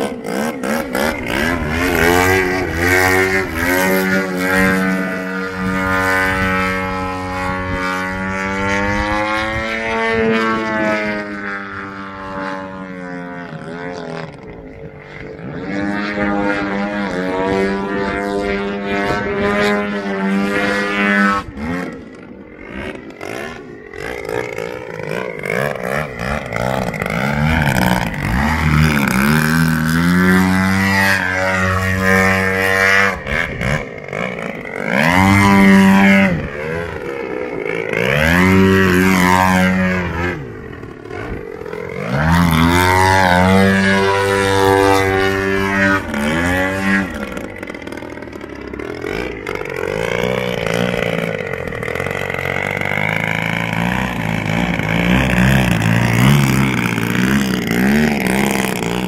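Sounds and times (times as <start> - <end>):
model plane engine in flight: 0.0 - 59.0.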